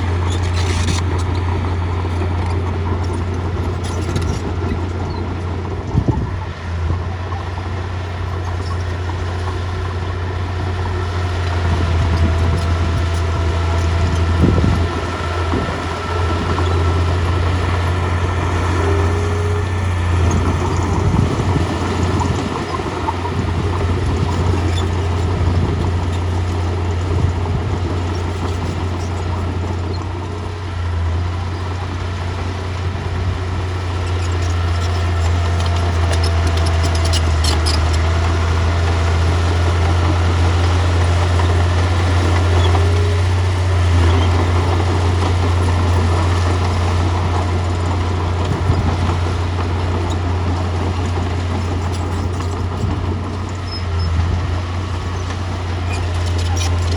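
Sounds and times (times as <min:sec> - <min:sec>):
bulldozer diesel engine droning: 0:00.0 - 0:56.9.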